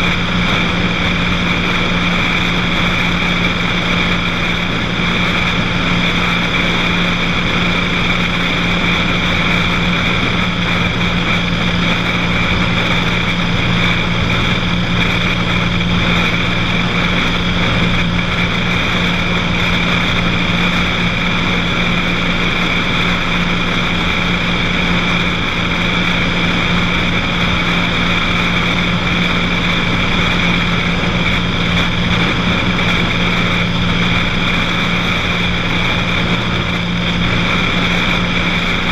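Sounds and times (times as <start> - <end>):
propeller airplane engine drone: 0.0 - 38.9.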